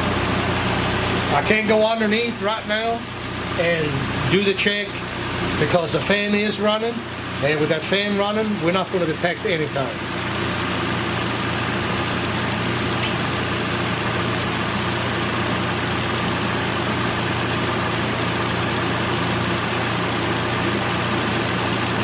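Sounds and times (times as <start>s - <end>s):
car engine idling: 0.0s - 22.0s
electric cooling fan running: 0.0s - 22.0s.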